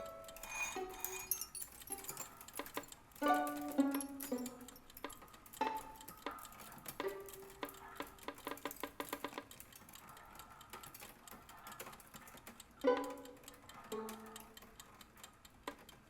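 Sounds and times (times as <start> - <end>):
small clicks and clinks: 0.0 - 16.0.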